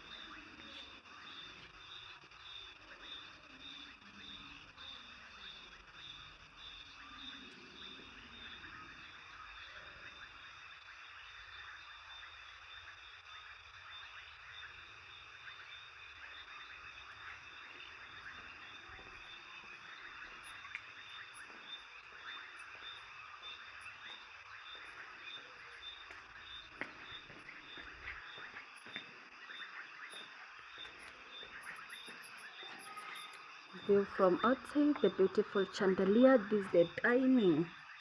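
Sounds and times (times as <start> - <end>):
frogs and insects chorus: 0.0 - 38.0.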